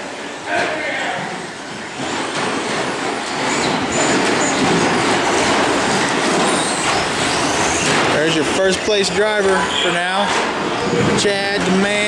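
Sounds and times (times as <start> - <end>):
rc trucks clattering: 1.7 - 12.0.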